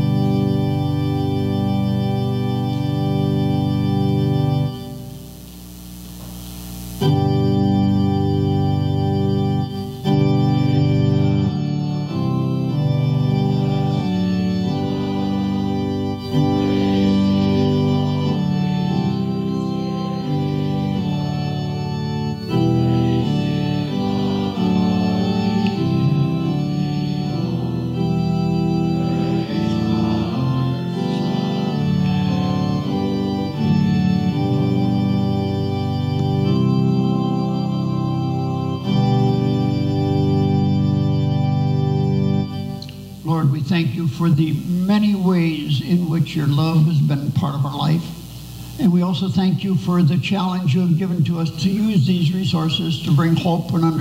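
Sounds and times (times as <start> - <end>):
organ playing held chords: 0.0 - 54.0.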